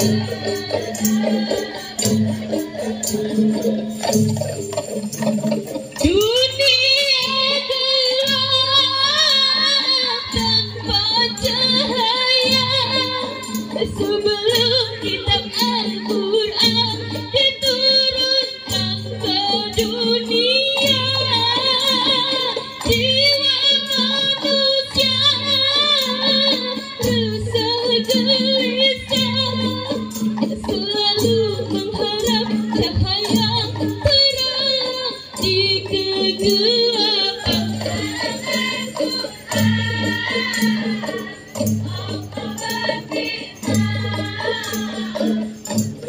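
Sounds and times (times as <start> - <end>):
woman singing: 0.0 - 4.0, 6.0 - 45.8
music with drum beat: 0.0 - 46.0.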